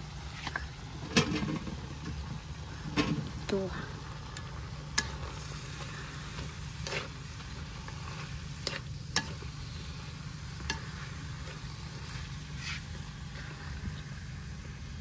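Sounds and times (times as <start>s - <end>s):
food stir-frying in a wok: 0.0s - 15.0s
steady low hum: 0.0s - 15.0s.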